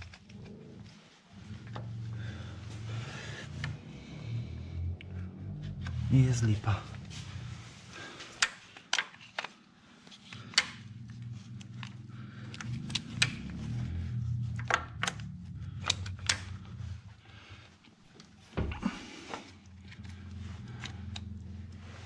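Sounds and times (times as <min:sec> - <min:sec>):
low steady hum: 0:00.0 - 0:08.4, 0:09.8 - 0:22.0.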